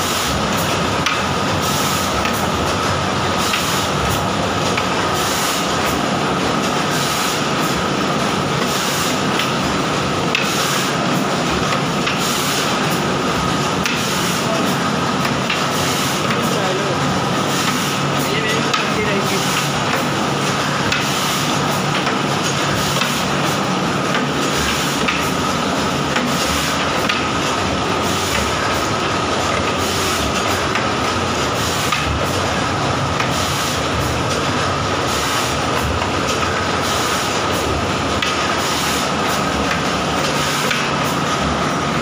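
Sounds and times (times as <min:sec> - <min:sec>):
machinery clatter: 0:00.0 - 0:42.0.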